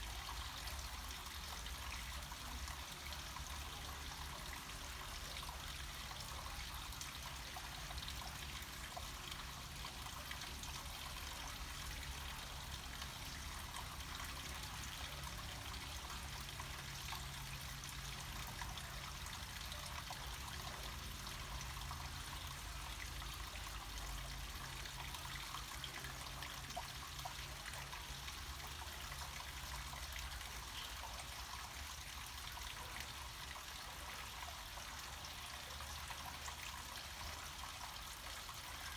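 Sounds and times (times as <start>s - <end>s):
stream trickling over rocks: 0.0s - 38.9s.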